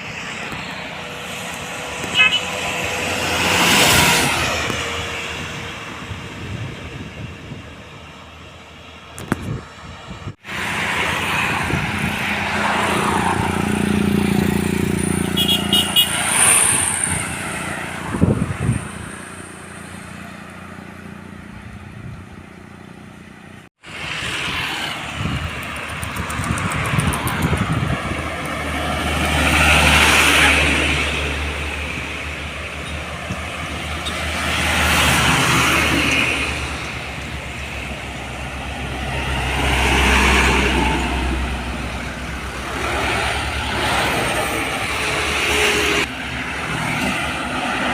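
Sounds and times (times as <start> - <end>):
trucks passing on road: 0.0 - 47.9.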